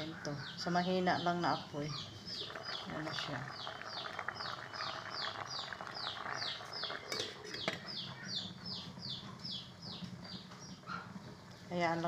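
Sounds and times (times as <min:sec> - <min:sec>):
bird chirping: 0:00.0 - 0:11.4.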